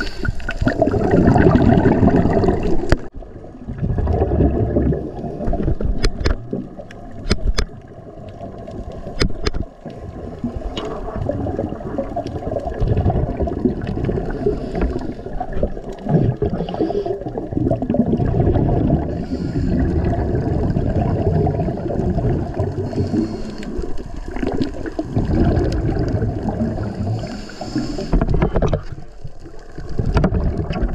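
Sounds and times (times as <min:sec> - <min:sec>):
underwater bubbles gurgling: 0:00.0 - 0:30.9.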